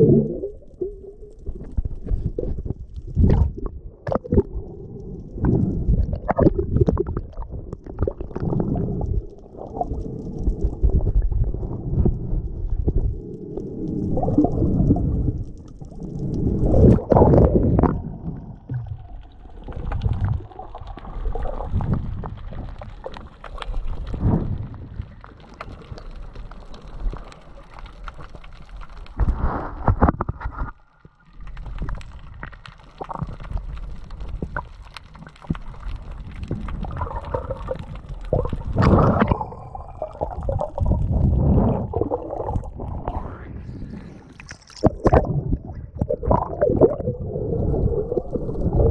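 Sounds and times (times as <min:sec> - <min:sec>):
underwater gurgling and rumbling: 0:00.0 - 0:48.9.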